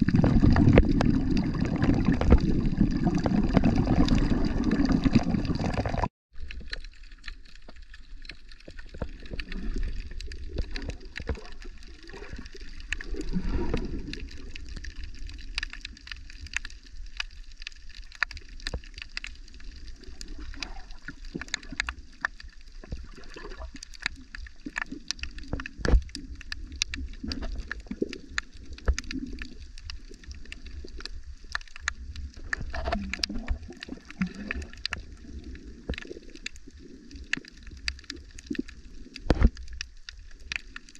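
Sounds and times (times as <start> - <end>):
muffled underwater rumble: 0.0 - 40.9
sharp clicks and crackles: 0.0 - 40.9.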